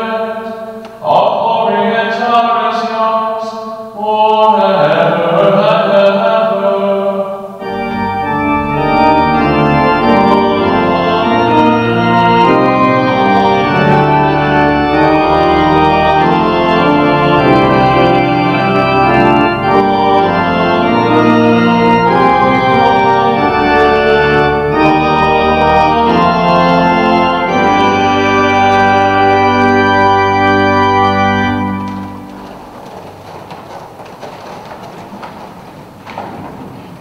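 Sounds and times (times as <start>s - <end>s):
church organ playing chords: 0.0s - 36.3s.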